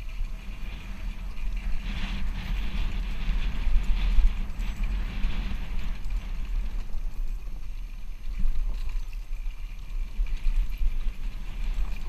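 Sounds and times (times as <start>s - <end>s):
dirt bike rattling: 0.0s - 12.0s
wind rumble on microphone: 0.0s - 12.0s.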